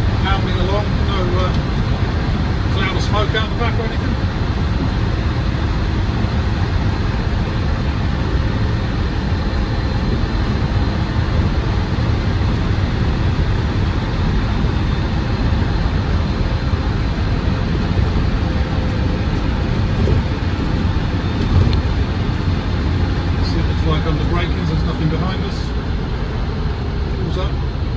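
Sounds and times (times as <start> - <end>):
diesel engine running: 0.0 - 27.9
road and wind noise: 0.0 - 27.9.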